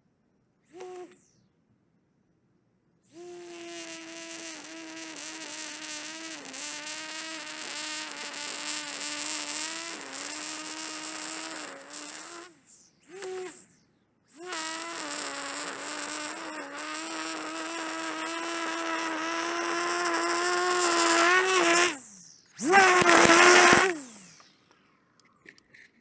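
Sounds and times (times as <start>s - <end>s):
string trimmer motor whining: 3.2s - 13.6s, 14.3s - 24.8s.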